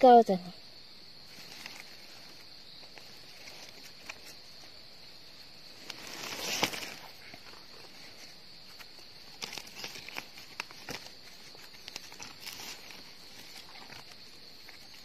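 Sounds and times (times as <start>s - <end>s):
high insect drone: 0.0s - 15.0s
dry leaf litter rustling: 1.2s - 15.0s.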